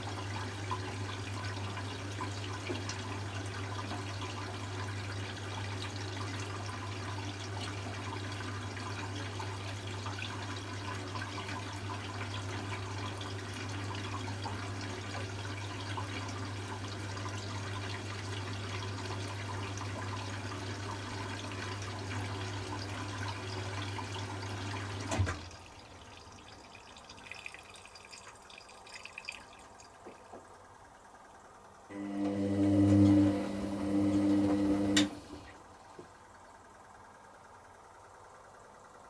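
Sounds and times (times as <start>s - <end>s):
water rushing into washing machine: 0.0s - 36.0s.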